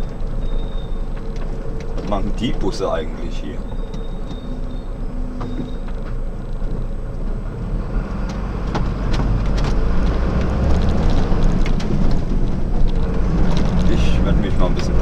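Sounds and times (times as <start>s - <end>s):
cab rattles and clicks: 0.0s - 7.4s, 8.2s - 15.0s
diesel truck engine running: 0.0s - 15.0s.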